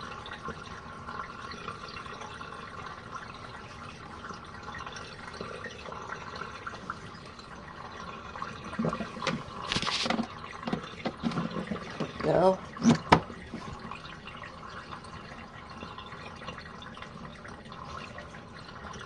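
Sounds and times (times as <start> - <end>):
water running in washing machine: 0.0 - 19.0.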